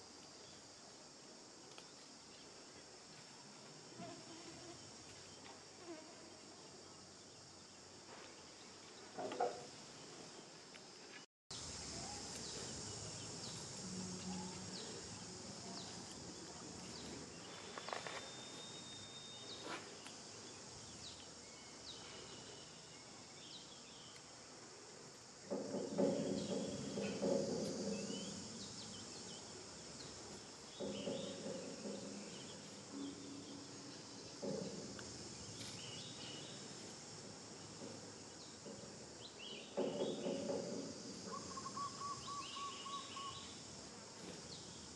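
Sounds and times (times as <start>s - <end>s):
insect chorus buzzing: 0.0s - 44.9s.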